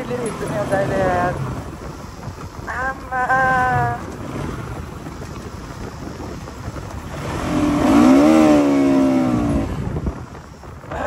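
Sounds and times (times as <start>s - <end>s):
motorcycle riding: 0.0s - 11.0s
wind rushing over microphone: 0.0s - 11.0s.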